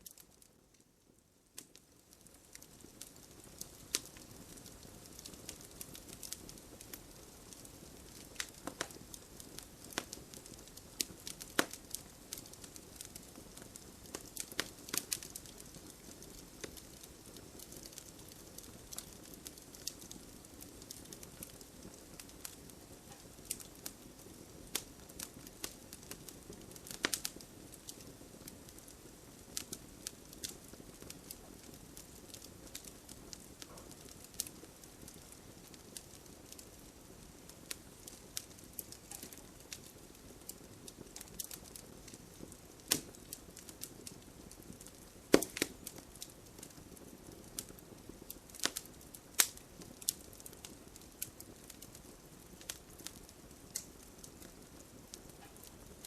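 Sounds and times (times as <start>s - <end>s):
fire snapping and popping: 0.0s - 56.0s
campfire hissing: 1.5s - 56.0s.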